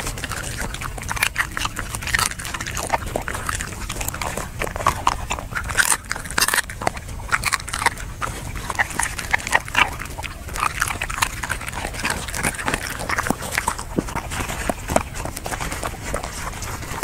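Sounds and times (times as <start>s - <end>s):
dog chewing food: 0.0s - 17.0s.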